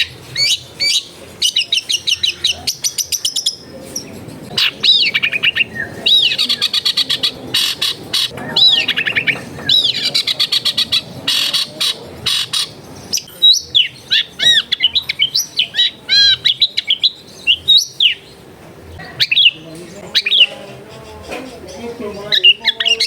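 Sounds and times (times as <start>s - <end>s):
bird harsh chattering: 0.0s - 23.0s.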